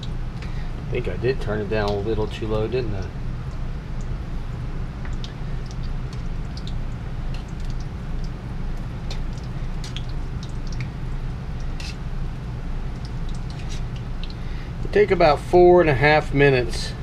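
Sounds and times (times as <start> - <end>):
dough sizzling in hot oil: 0.0 - 15.0
oil crackling and popping: 0.0 - 15.0
steady low hum: 0.0 - 17.0.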